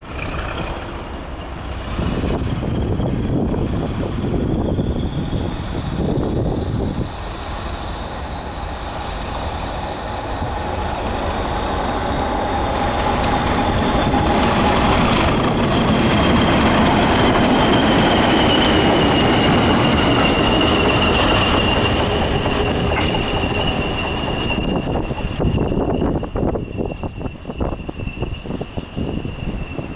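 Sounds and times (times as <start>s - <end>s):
diesel locomotives passing: 0.0s - 29.9s
high steady whistle: 4.2s - 29.9s.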